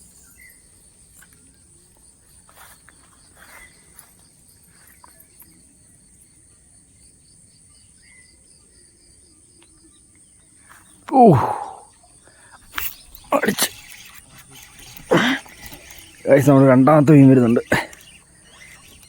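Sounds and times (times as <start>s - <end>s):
crickets chirping: 0.0s - 19.0s
insects high-pitched whine: 0.0s - 19.0s.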